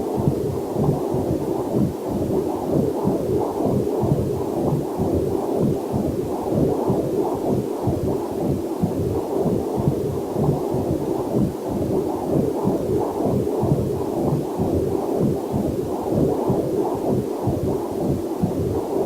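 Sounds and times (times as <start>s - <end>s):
doppler heartbeat whoosh: 0.0s - 19.0s.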